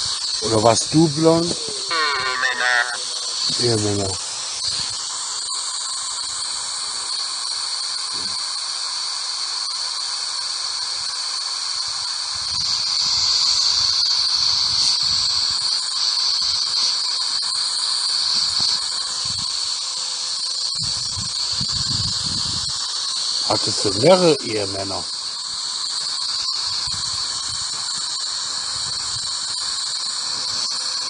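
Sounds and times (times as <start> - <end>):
high-pitched hissing static: 0.0 - 31.0.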